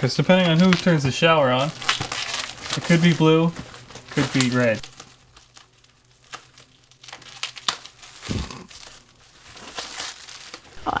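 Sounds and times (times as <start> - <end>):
crinkling handling noise: 0.0 - 10.9.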